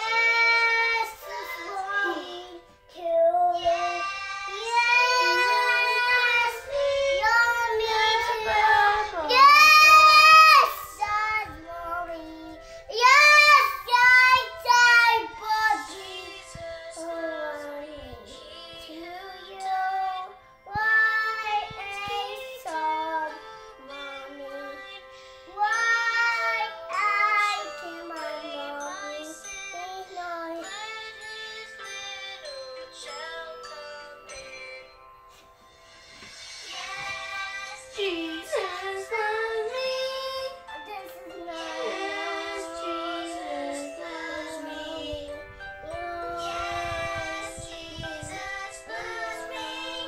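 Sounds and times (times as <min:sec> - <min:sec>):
girl singing in high voice: 0:00.0 - 0:34.8, 0:36.8 - 0:50.0
faint music: 0:00.0 - 0:50.0.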